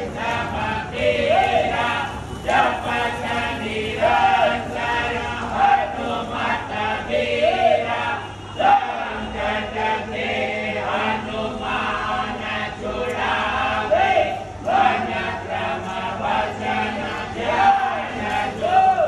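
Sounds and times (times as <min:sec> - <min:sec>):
voices chant-like singing: 0:00.0 - 0:19.0.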